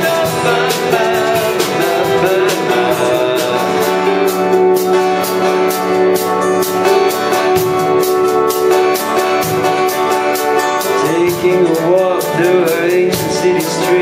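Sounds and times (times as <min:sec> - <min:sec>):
drums steady beat: 0:00.0 - 0:14.0
electric guitar playing: 0:00.0 - 0:14.0
sustained keyboard chords: 0:00.0 - 0:14.0.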